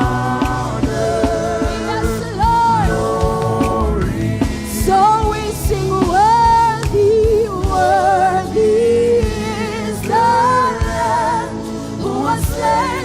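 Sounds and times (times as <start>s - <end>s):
band playing gospel music: 0.0s - 13.0s
lead vocal singing held notes: 0.0s - 13.0s.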